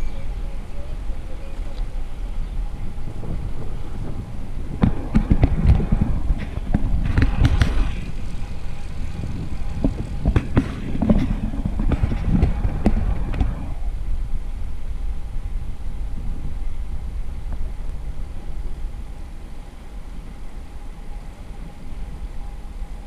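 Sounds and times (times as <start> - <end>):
bicycle road rumble: 0.0 - 23.0
wind on microphone: 0.0 - 23.0.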